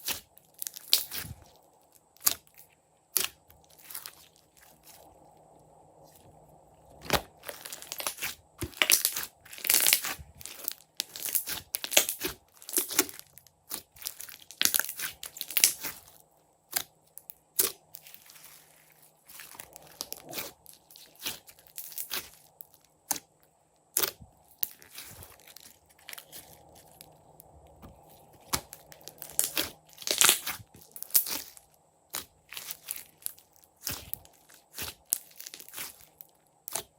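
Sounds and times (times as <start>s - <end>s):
slime crackling and popping: 0.0s - 1.4s, 2.2s - 5.0s, 7.0s - 18.7s, 19.3s - 23.3s, 23.9s - 27.4s, 28.3s - 36.9s.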